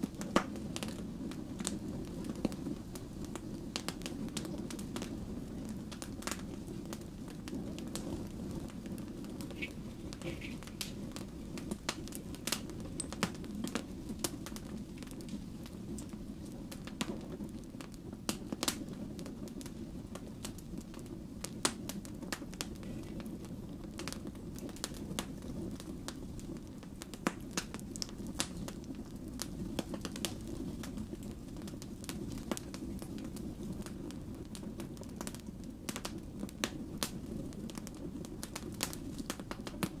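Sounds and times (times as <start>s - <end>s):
logs popping and crackling: 0.0s - 40.0s
wood fire burning: 0.0s - 40.0s.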